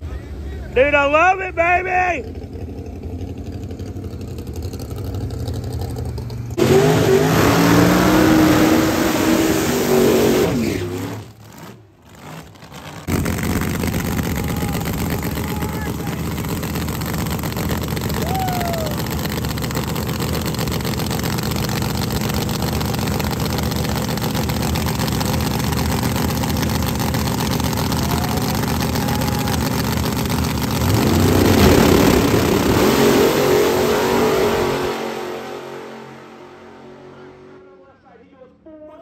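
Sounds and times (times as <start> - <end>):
drag race engines idling: 0.0 - 39.0
cars launching at full throttle: 6.5 - 37.8.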